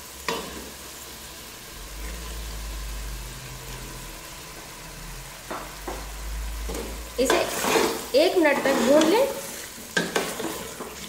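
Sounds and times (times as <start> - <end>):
masala sizzling in a pot: 0.0 - 11.0.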